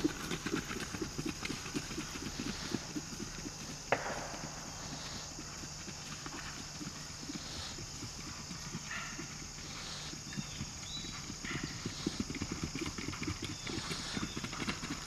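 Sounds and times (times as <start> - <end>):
horse hoofbeats on grass: 0.0 - 15.0.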